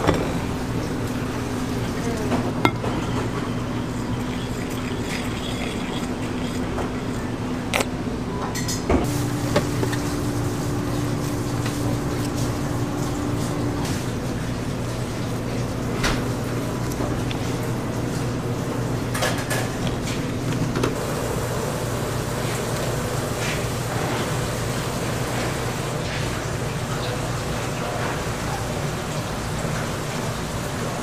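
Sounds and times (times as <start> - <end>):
higher machine hum: 0.0 - 31.0
steady machine hum: 0.0 - 31.0.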